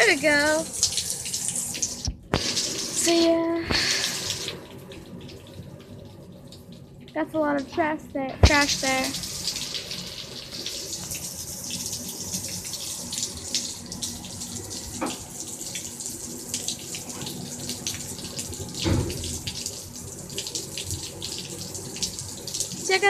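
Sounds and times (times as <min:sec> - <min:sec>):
rain falling and dripping: 0:00.0 - 0:23.0.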